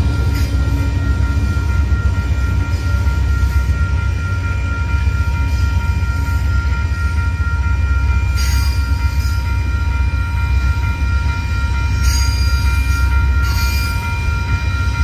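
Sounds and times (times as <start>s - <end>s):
electronic crossing bell: 0.0s - 15.0s
train wheels rumbling on rail: 0.0s - 15.0s.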